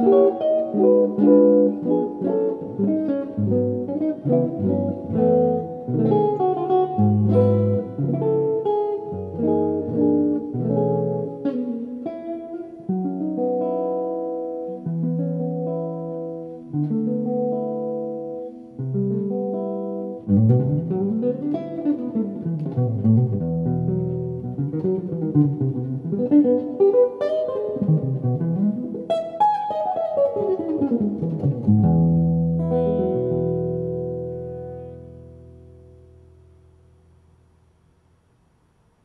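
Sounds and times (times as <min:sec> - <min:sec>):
electric guitar through amplifier: 0:00.0 - 0:39.0.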